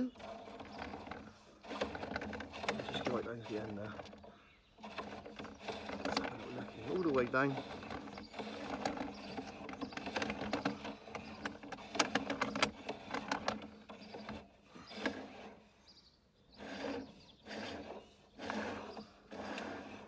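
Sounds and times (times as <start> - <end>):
cable clicking and rattling: 0.0 - 15.6, 16.6 - 20.0.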